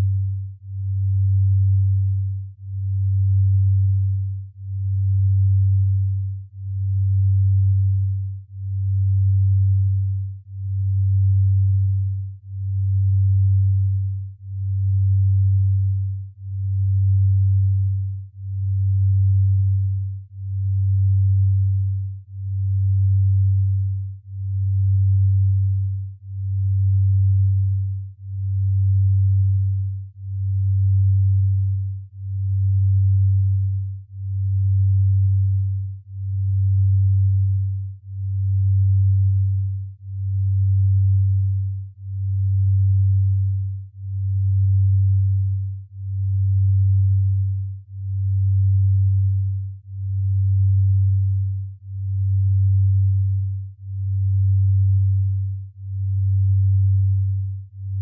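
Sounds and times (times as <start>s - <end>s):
low pulsing sine tone: 0.0s - 58.0s.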